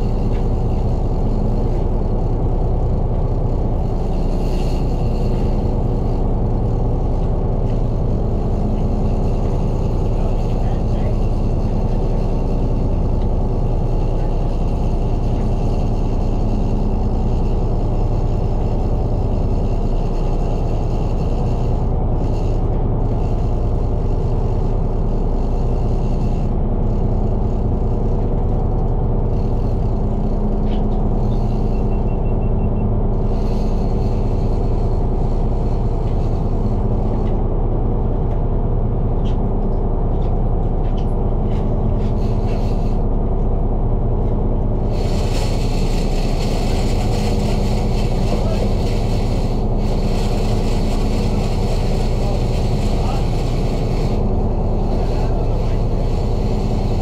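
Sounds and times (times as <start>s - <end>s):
boat engine rumbling: 0.0s - 57.0s.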